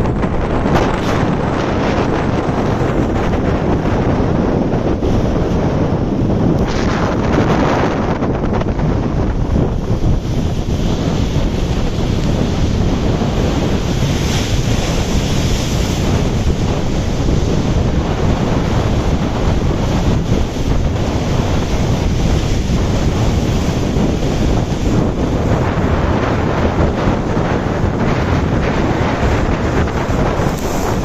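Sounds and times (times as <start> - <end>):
sea surf breaking: 0.0 - 31.0
wind buffeting microphone: 0.0 - 31.0.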